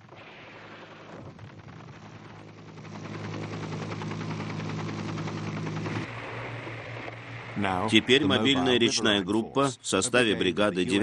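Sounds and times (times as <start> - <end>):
helicopter engine drone: 0.0 - 11.0.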